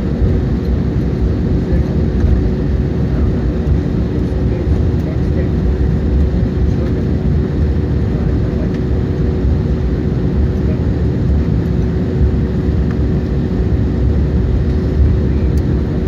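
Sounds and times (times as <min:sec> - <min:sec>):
constant low hum: 0:00.0 - 0:16.0
jet engine cabin rumble: 0:00.0 - 0:16.0.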